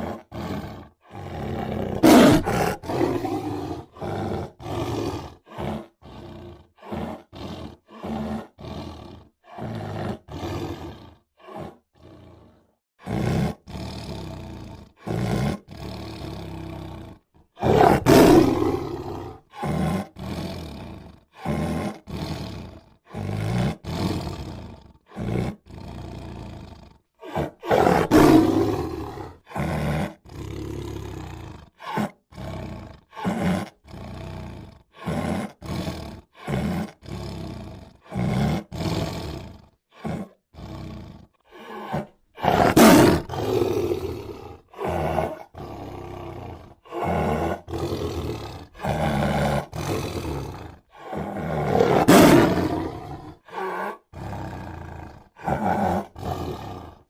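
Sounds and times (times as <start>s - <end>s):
tiger roaring and growling: 0.0s - 57.0s.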